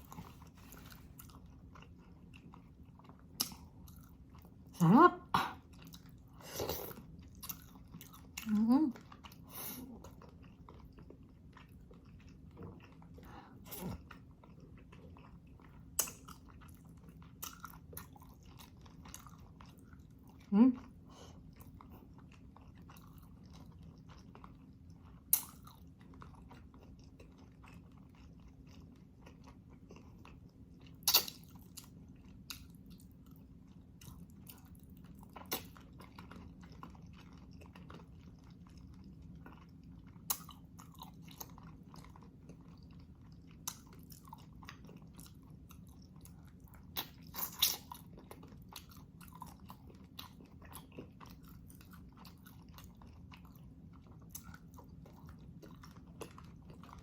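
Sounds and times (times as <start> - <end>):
person chewing: 0.0 - 4.7, 5.4 - 57.0
faint steady hum: 0.0 - 57.0.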